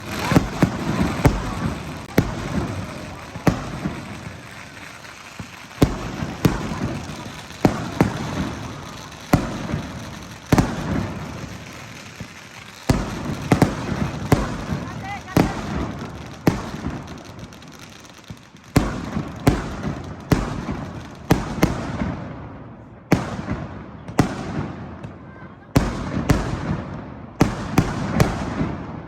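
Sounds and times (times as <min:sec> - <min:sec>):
fireworks exploding: 0:00.0 - 0:29.0.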